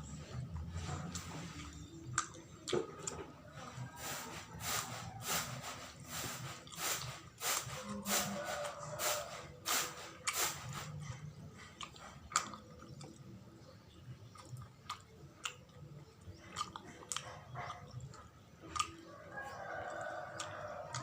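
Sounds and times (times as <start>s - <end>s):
close-miked chewing: 0.0s - 21.0s.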